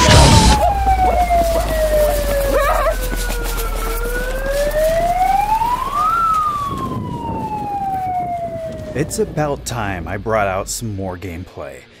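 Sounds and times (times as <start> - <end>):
siren wailing: 0.0 - 10.2
low hum: 0.0 - 11.4.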